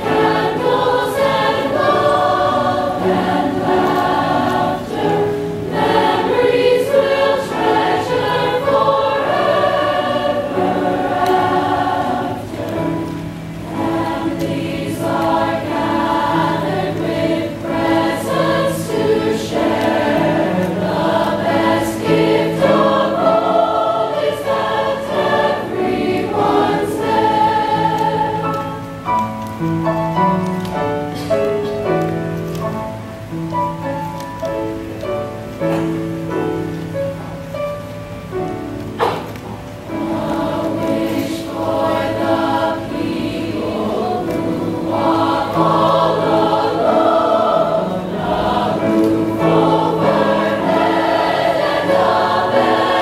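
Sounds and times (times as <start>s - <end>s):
chorus singing in harmony: 0.0s - 29.2s, 38.9s - 53.0s
piano accompaniment: 0.0s - 53.0s.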